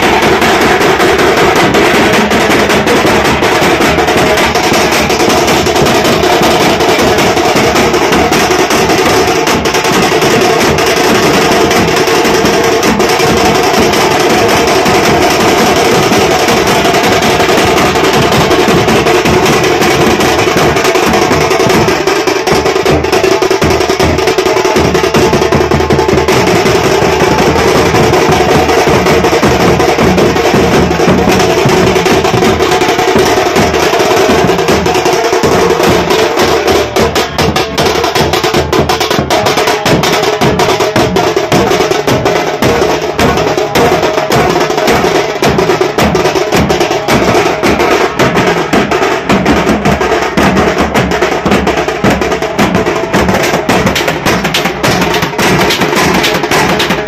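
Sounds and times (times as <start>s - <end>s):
band of drummers: 0.0s - 57.0s.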